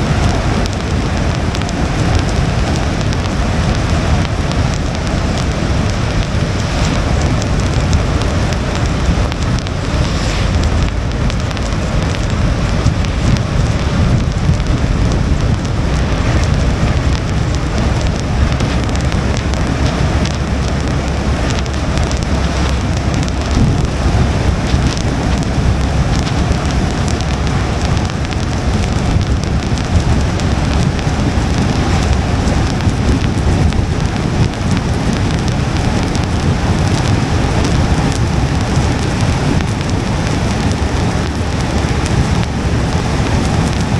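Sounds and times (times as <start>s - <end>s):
rain on car windshield and roof: 0.0s - 43.9s
steady low rumble: 0.0s - 43.9s.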